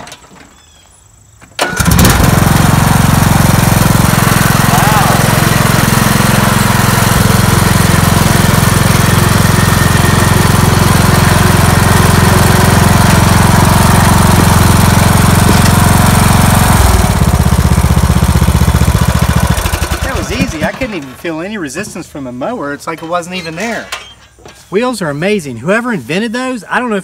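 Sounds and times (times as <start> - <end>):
riding lawn mower engine running: 1.4 - 25.8.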